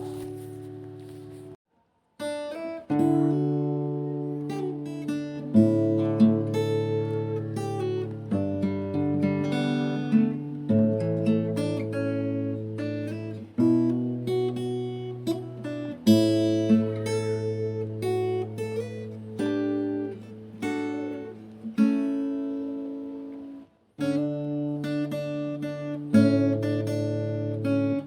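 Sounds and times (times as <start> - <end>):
acoustic guitar picking: 0.0 - 1.6, 2.2 - 28.0.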